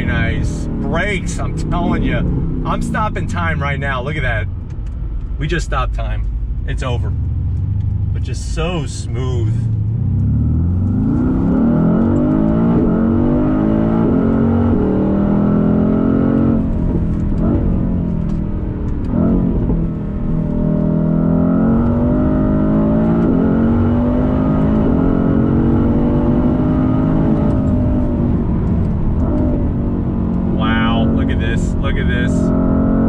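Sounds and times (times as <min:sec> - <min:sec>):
car engine shifting gears: 0:00.0 - 0:33.0.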